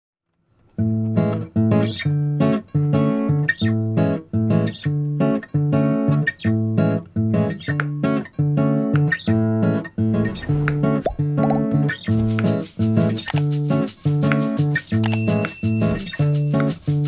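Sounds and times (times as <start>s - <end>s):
acoustic guitar strumming chords: 0.8s - 17.0s.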